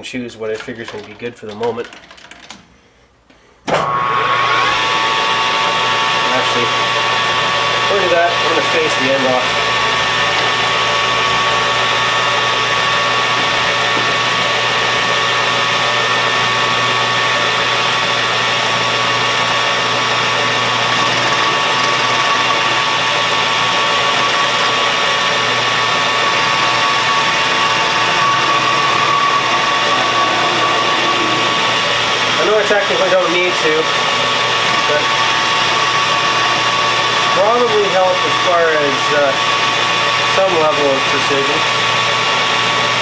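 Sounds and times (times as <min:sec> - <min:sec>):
metal lathe motor and gear whine: 0:04.1 - 0:43.0.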